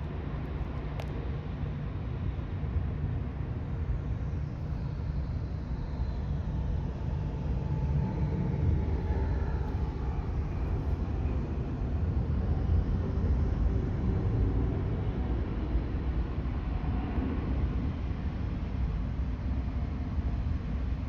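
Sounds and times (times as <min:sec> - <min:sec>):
jet engines rumbling: 0:01.8 - 0:20.7.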